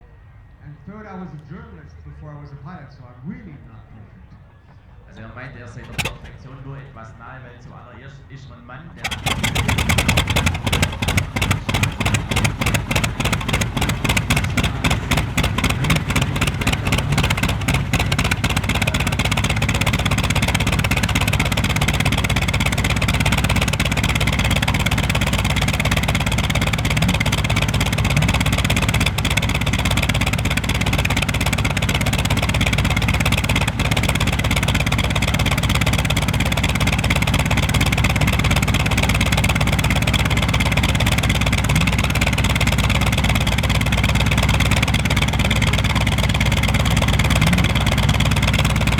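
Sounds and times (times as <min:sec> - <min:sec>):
piston engine idling: 0:00.0 - 0:48.9.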